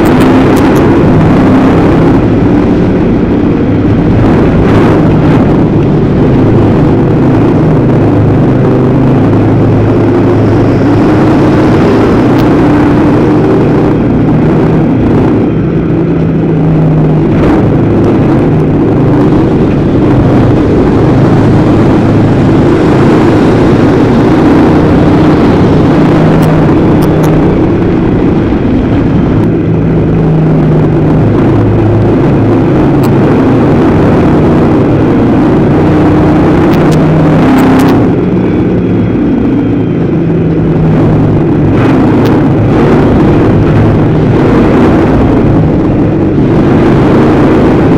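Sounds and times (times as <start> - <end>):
race car engine running hard: 0.0 - 47.9.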